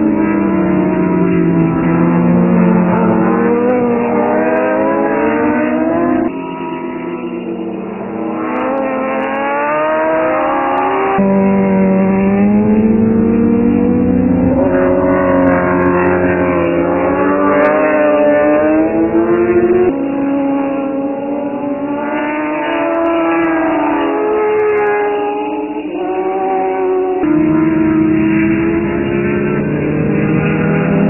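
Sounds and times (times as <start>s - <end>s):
motorcycle engines revving hard: 0.0s - 31.0s.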